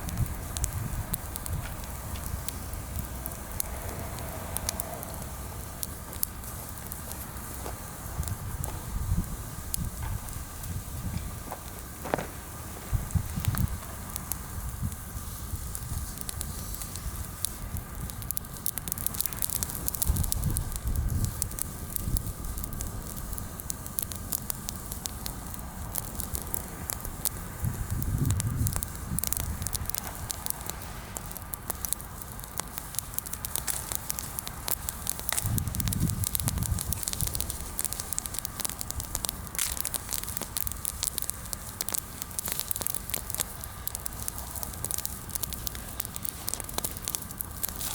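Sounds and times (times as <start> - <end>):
bonfire crackling and popping: 0.0 - 47.9
low rumble of fire: 0.0 - 47.9.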